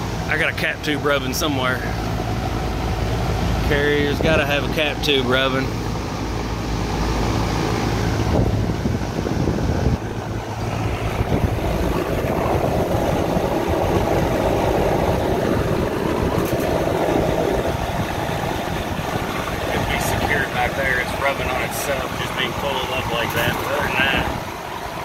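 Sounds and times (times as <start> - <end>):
air conditioning unit running: 0.0 - 25.0
low hum: 0.0 - 25.0.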